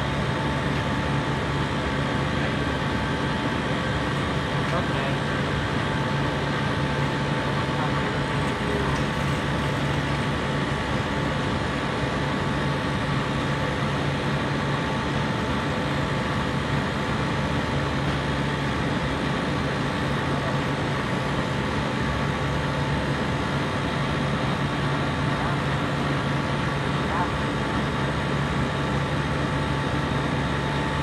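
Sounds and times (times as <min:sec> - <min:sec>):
compressor running: 0:00.0 - 0:31.0.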